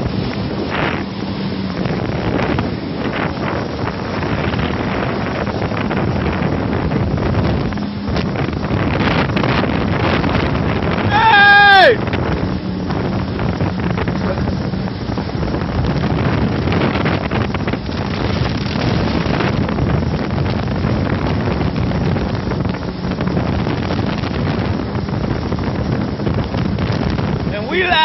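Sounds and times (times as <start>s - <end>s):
jet ski running: 0.0s - 28.0s
wind buffeting microphone: 0.0s - 28.0s.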